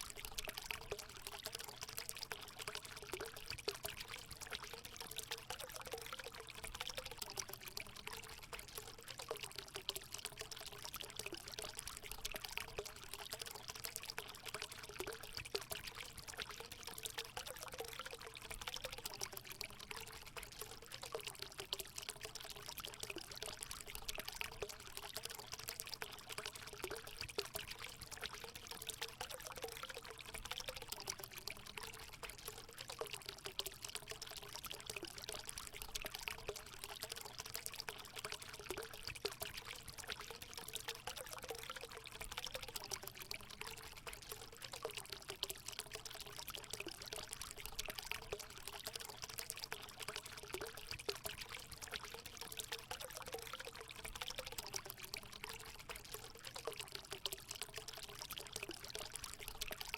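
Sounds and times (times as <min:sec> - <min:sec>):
water gurgling: 0:00.0 - 0:59.9
water pouring into pool: 0:00.0 - 0:59.9.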